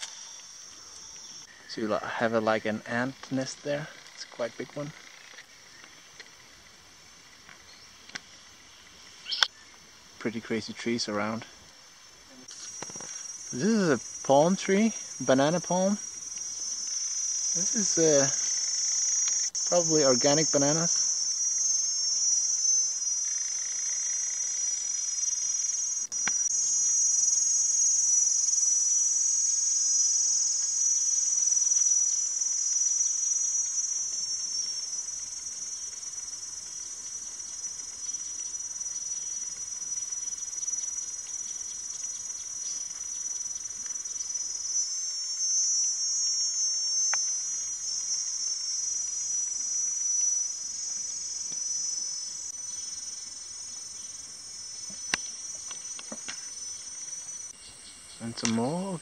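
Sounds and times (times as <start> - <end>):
insects buzzing chorus: 0.0 - 59.0.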